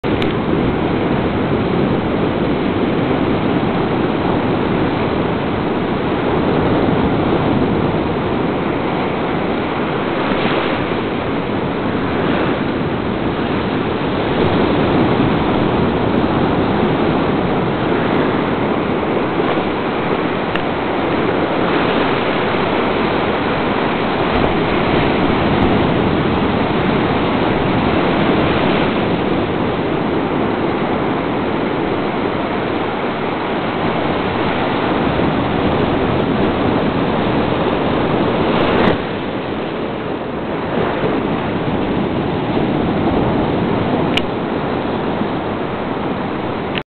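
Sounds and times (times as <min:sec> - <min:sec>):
ocean surf breaking: 0:00.0 - 0:46.8.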